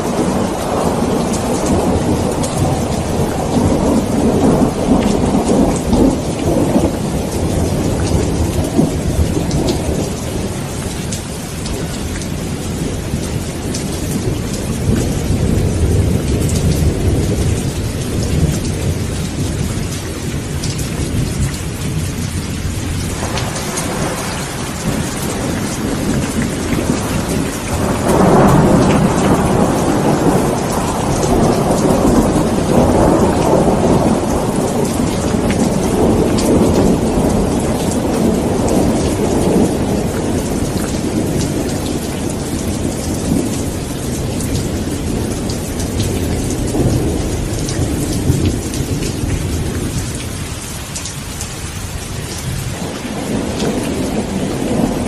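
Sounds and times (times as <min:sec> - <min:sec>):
steady rain: 0:00.0 - 0:55.0
thunder rumbling: 0:00.0 - 0:55.0.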